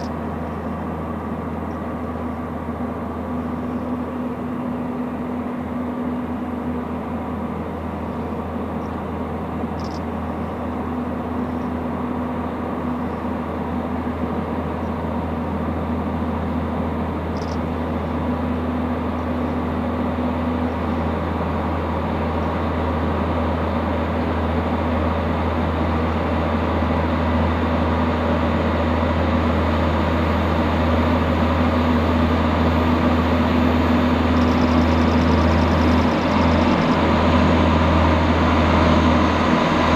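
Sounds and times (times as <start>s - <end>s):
diesel train engine running: 0.0s - 39.9s.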